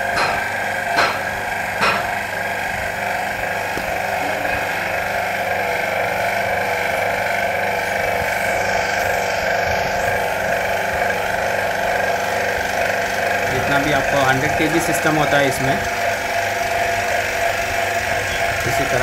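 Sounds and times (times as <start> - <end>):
hydraulic pump droning: 0.0 - 19.0.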